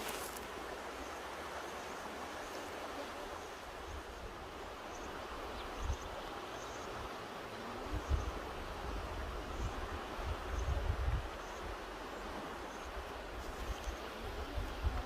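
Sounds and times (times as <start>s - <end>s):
river water rushing: 0.0s - 10.5s, 11.2s - 14.9s.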